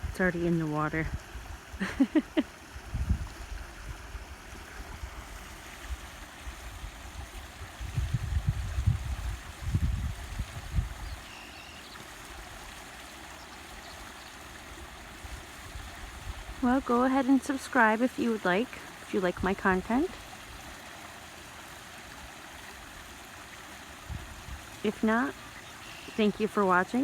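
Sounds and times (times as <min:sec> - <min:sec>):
small waterfall splashing: 0:00.0 - 0:27.0.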